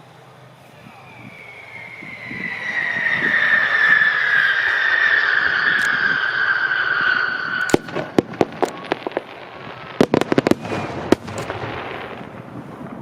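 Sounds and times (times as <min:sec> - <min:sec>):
firework whistle sliding down: 0:00.6 - 0:12.3
fireworks cracking and popping: 0:00.6 - 0:13.0.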